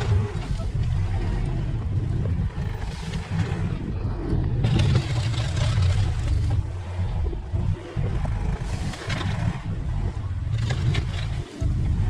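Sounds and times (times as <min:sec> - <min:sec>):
earth-moving machine engine rumbling: 0:00.0 - 0:12.0.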